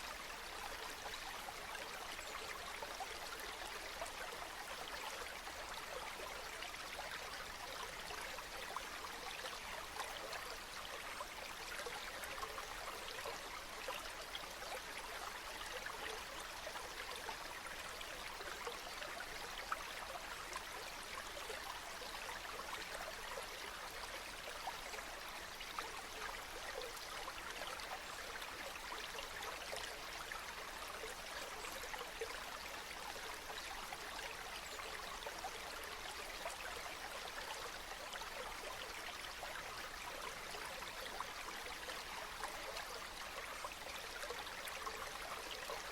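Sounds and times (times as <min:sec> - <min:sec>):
brook babbling over stones: 0:00.0 - 0:45.9.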